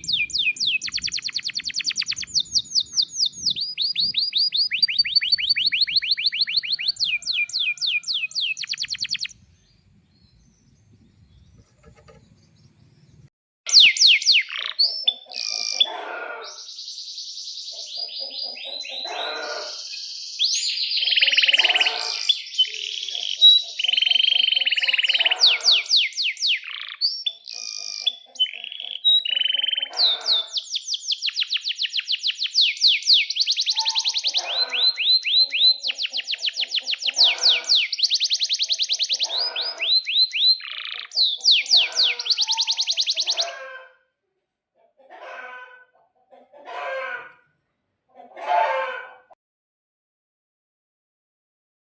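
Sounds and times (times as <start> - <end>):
canary singing trills: 0.0 - 43.8.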